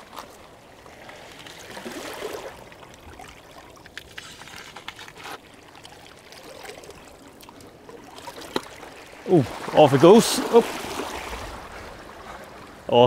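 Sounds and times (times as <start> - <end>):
sea water sloshing against rocks: 0.0 - 13.0.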